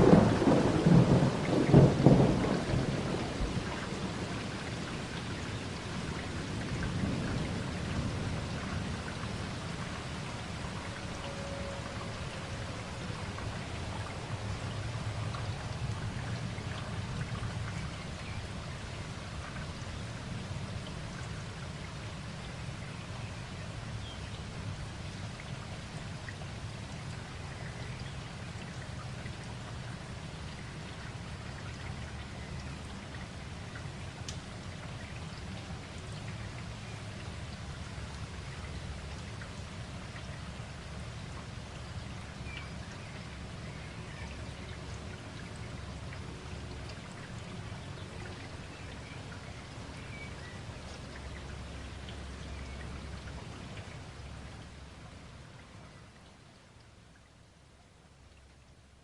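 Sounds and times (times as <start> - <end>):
rain hissing: 0.0 - 55.5
raindrops ticking: 0.0 - 57.4.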